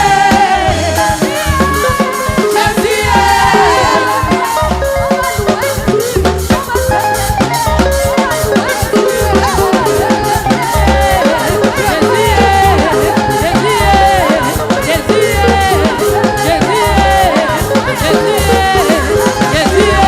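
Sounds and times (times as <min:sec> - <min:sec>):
drums and percussion: 0:00.0 - 0:20.0
gospel praise music: 0:00.0 - 0:20.0
voices singing: 0:00.0 - 0:20.0.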